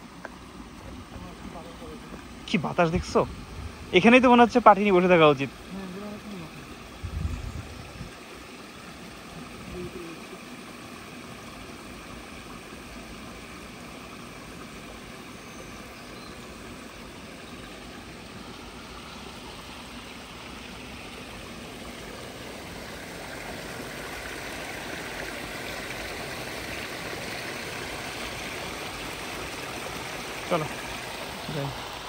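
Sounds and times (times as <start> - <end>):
stream splashing over branches: 0.0 - 32.0.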